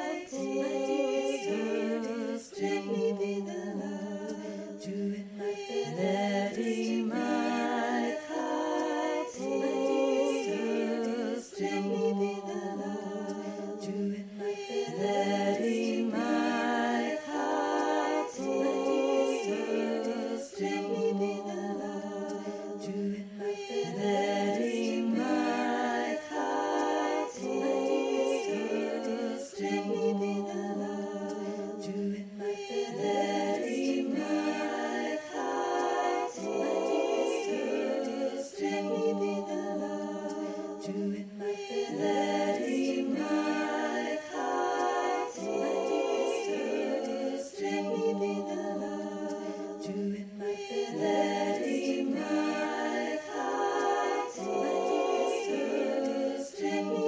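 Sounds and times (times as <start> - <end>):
unaccompanied harmony singing: 0.0 - 57.0.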